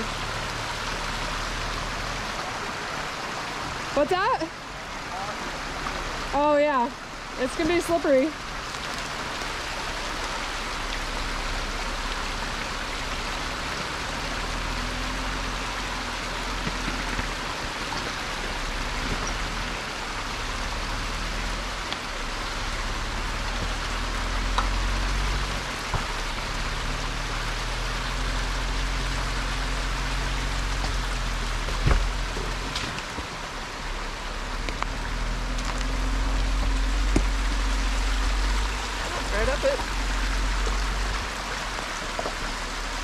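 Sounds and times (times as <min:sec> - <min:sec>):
continuous hiss: 0:00.0 - 0:43.0
jeep engine running low: 0:00.0 - 0:43.0.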